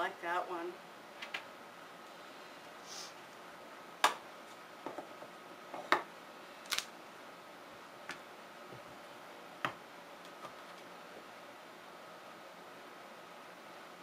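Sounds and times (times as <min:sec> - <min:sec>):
air conditioner hum: 0:00.0 - 0:14.0.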